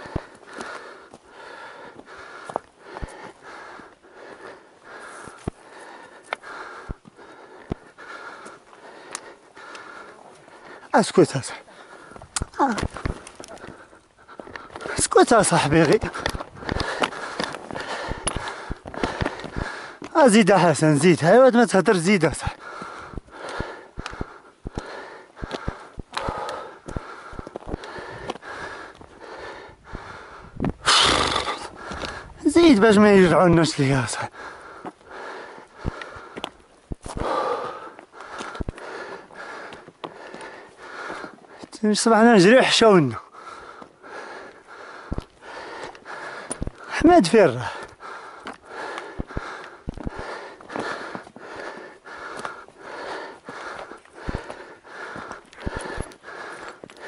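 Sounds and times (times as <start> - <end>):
footstep clicks: 0.0 - 21.3, 22.0 - 41.9, 43.5 - 57.0
fast heavy breathing: 0.0 - 57.0.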